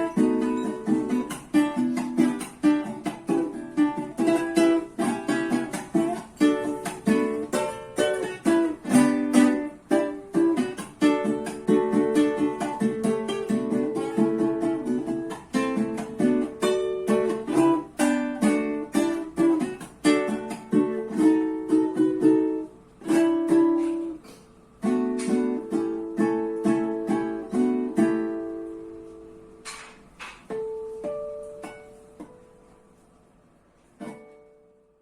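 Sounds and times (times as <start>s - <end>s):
plucked and strummed string instrument: 0.0s - 33.2s, 33.8s - 35.0s.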